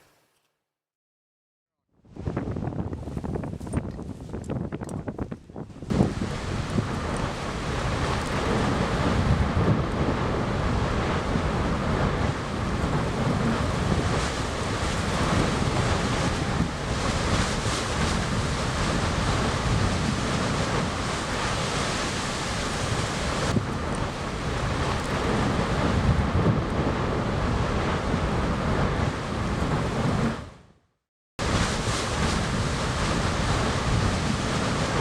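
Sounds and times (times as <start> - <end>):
wind buffeting microphone: 2.0 - 30.6, 31.4 - 35.0
volcano deep roar and rumble: 5.6 - 30.6, 31.4 - 35.0.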